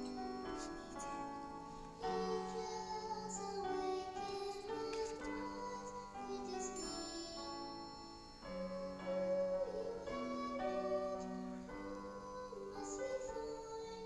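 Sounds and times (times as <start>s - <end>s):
keyboard playing slow chords: 0.0s - 14.0s.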